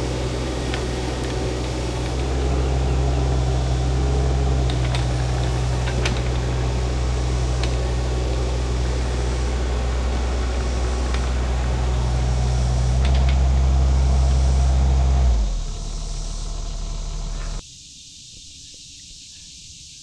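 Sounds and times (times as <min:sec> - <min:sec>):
excavator engine running: 0:00.0 - 0:17.6.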